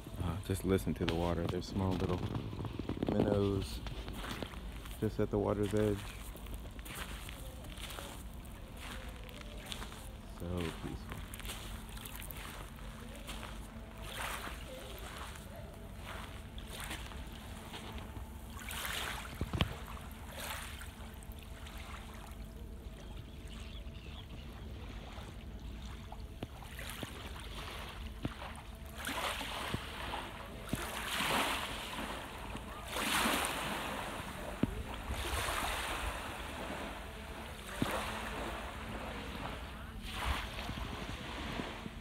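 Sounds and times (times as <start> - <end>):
steady low rumble: 0.0 - 29.0, 31.8 - 42.0
small waves lapping on sand: 0.0 - 42.0.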